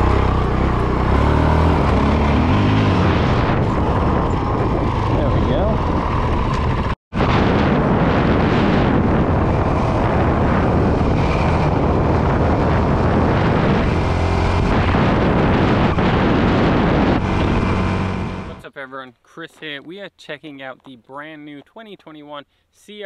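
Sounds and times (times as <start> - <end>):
dirt bike engine running: 0.0 - 18.6
wind rumble on microphone: 0.0 - 18.6.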